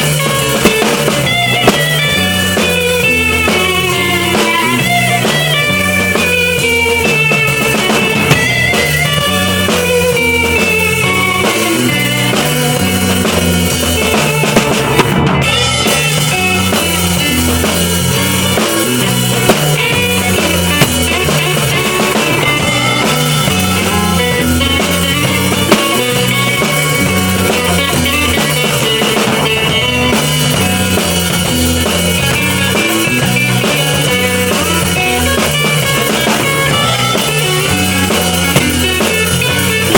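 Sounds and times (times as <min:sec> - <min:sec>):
drum kit playing: 0:00.0 - 0:39.9
layered guitar loops: 0:00.0 - 0:39.9.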